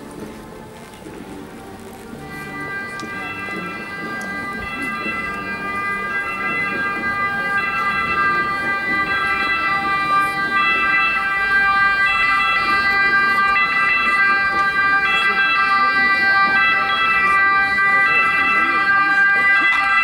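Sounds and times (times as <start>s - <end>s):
slow procession music: 0.0s - 20.0s.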